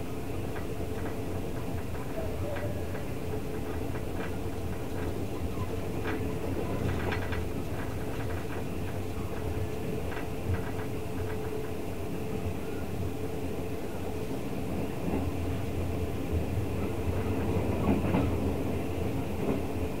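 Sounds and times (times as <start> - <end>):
train wheels rumbling on rails: 0.0 - 20.0
rail joint clicks: 0.3 - 13.1, 16.6 - 20.0.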